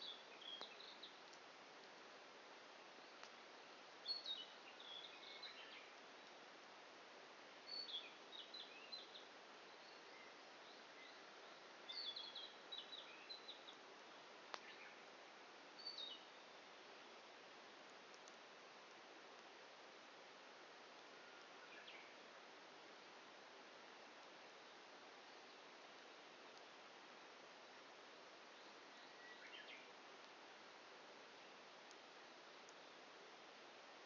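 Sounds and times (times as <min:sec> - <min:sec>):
faint steady hiss: 0:00.0 - 0:34.0
songbird chirping: 0:00.0 - 0:34.0.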